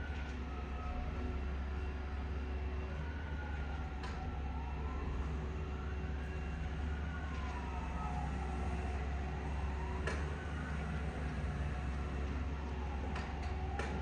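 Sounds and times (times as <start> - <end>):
heavy machine engine rumbling: 0.0 - 14.0.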